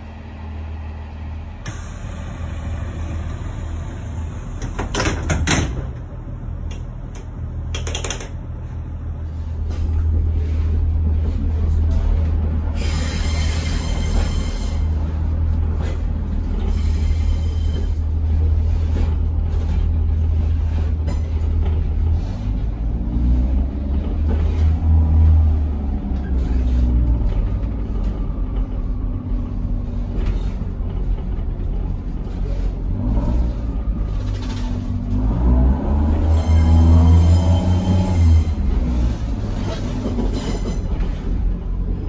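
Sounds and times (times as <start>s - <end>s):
diesel railbus rumble: 0.0s - 42.0s.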